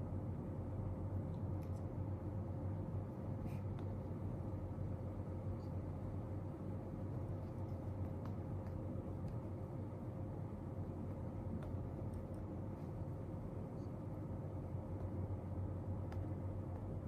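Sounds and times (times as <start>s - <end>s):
faint constant tone: 0.0s - 17.0s
low room hum: 0.0s - 17.0s.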